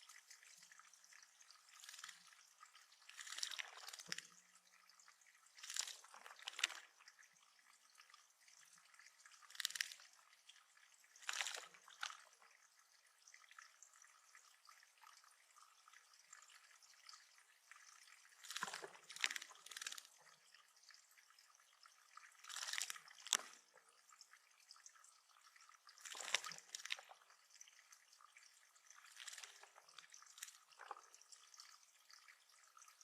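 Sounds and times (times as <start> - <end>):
water splashing and dripping: 0.0 - 33.0.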